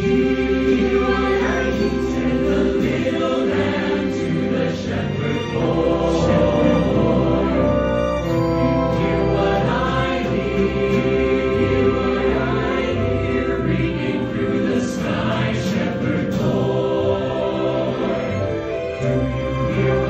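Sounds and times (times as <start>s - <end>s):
choir singing with orchestra: 0.0s - 20.0s.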